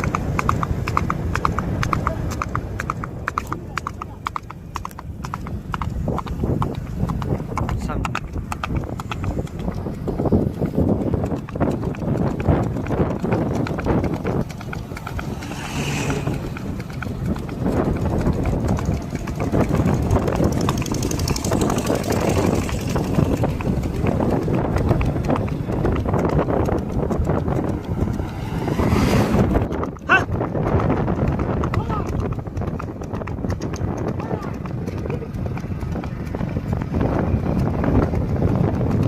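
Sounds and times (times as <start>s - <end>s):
horse hooves clip-clopping: 0.0s - 39.0s.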